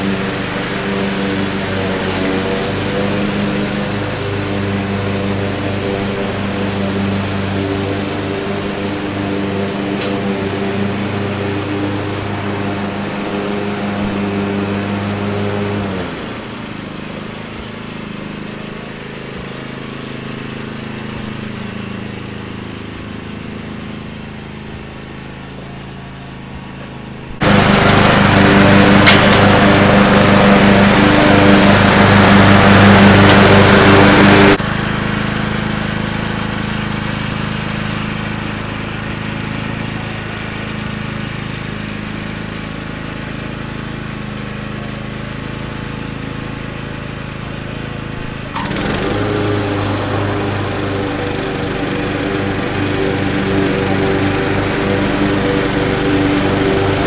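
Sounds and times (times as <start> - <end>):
riding lawn mower engine running: 0.0 - 57.0.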